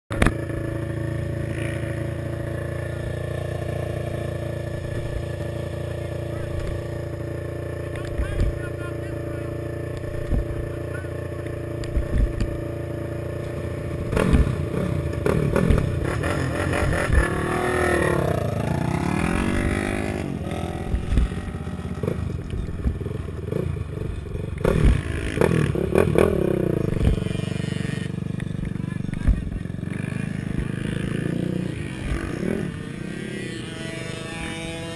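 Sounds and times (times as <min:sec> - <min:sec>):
quad engine idling and revving: 0:00.1 - 0:34.9.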